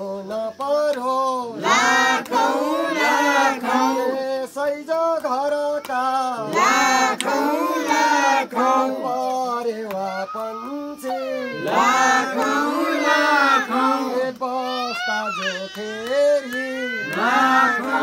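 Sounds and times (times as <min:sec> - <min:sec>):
voices singing chanted phrases: 0:00.0 - 0:18.0.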